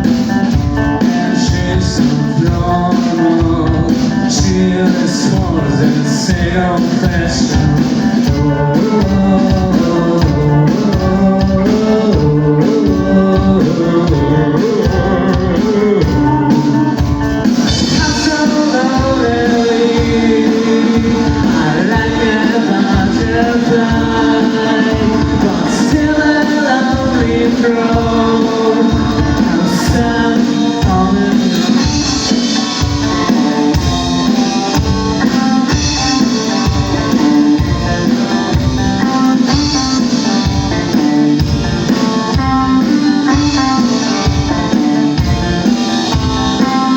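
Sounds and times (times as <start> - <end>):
drum beat: 0.0 - 46.9
guitar: 0.0 - 46.9
person singing: 0.0 - 46.9.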